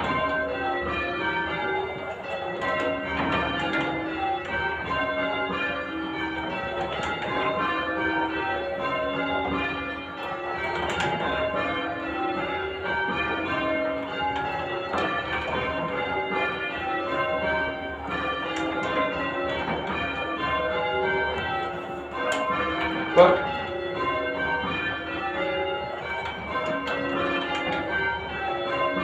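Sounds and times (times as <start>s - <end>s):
church bells change ringing: 0.0s - 29.0s.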